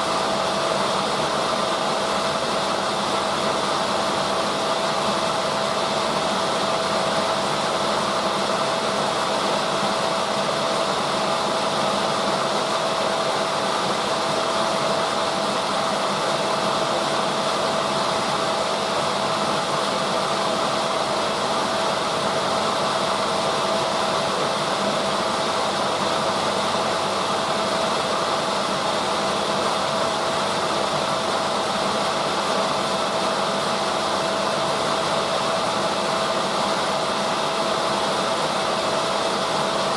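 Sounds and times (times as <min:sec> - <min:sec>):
washing machine drum whirring: 0:00.0 - 0:39.9.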